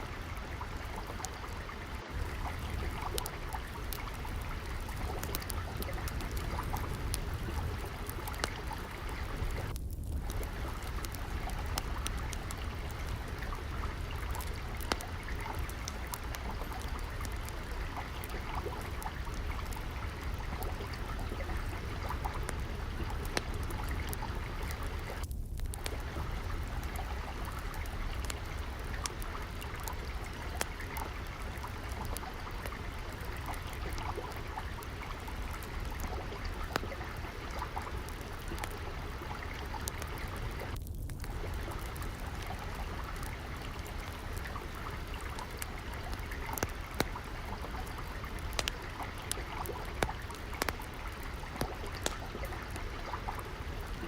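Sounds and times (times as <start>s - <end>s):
water flowing and trickling: 0.0s - 54.0s
wood fire crackling: 0.0s - 54.0s.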